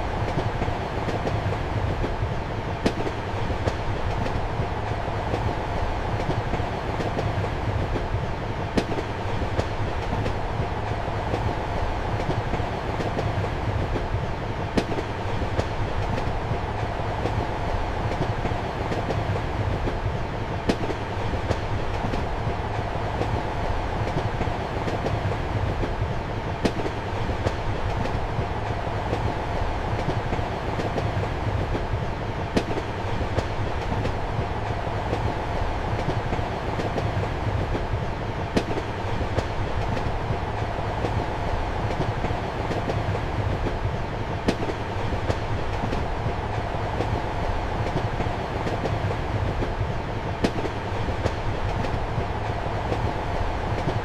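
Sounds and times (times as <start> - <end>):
train carriage rumbling and rattling: 0.0 - 54.0.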